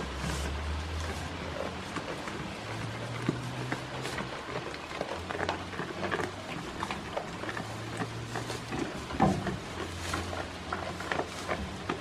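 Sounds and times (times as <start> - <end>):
goats pulling hay and chewing: 0.0 - 12.0.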